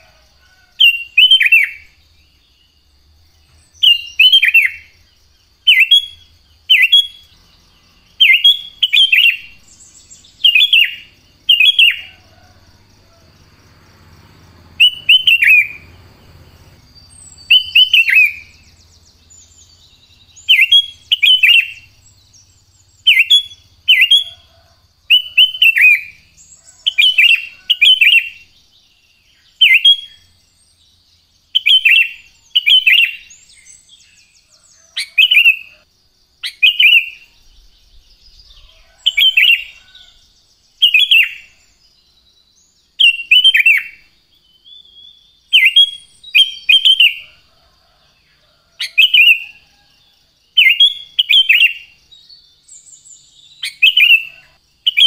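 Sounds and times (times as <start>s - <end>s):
bulbul singing: 0.0s - 35.8s, 36.4s - 48.0s, 48.8s - 55.0s.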